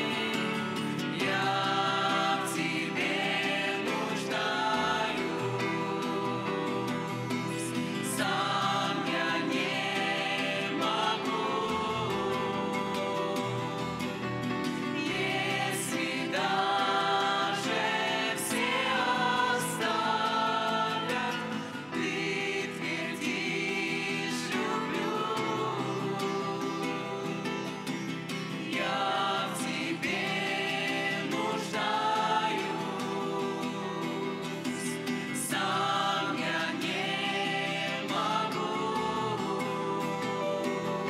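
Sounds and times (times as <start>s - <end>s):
choir singing gospel song: 0.0s - 41.0s.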